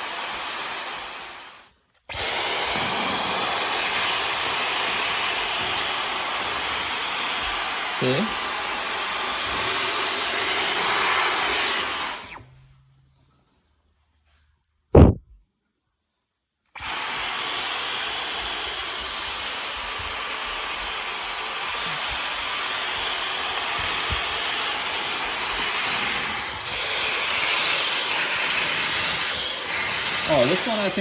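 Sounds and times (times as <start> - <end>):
vacuum cleaner running: 0.0 - 12.6, 16.7 - 31.0.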